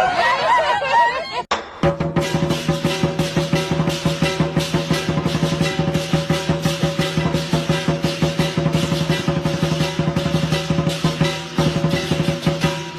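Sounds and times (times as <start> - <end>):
music with fast percussion beat: 1.8 - 12.9.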